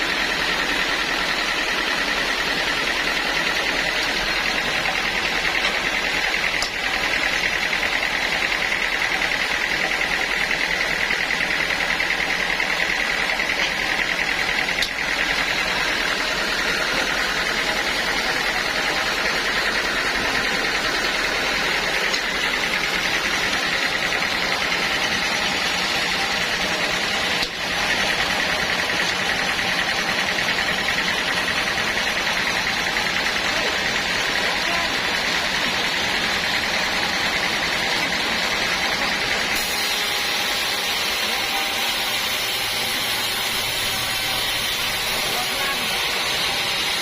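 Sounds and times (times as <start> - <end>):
sawmill machine whining: 0.0 - 47.0.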